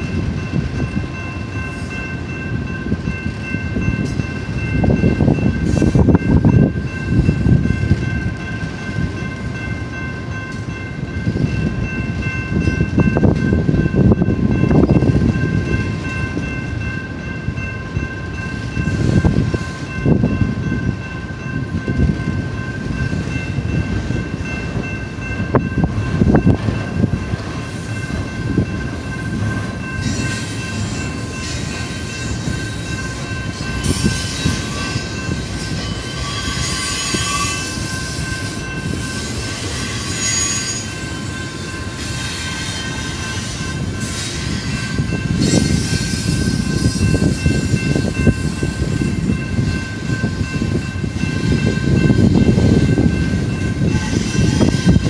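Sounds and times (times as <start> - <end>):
crossing warning bell ringing: 0.0 - 55.0
train wheels rumbling on rails: 0.0 - 55.0.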